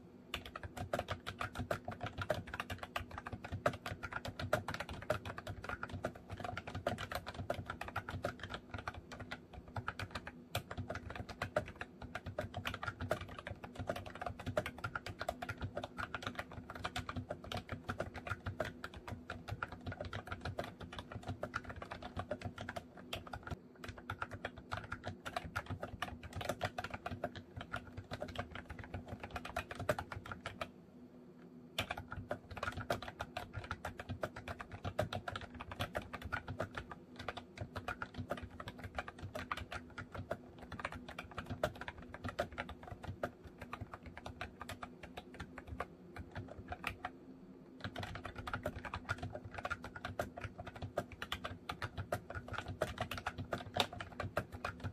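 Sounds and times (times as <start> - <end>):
keyboard typing clicks: 0.3 - 30.7, 31.7 - 54.9.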